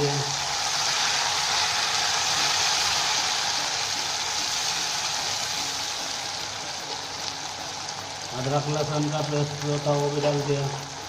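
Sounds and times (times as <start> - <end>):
tomato paste sizzling in oil: 0.0 - 11.0.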